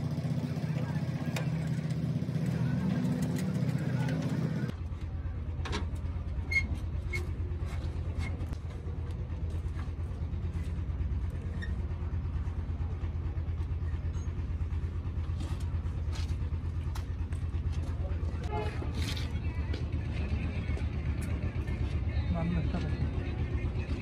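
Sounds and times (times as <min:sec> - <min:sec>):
low pulsing machine rumble: 0:00.0 - 0:24.0.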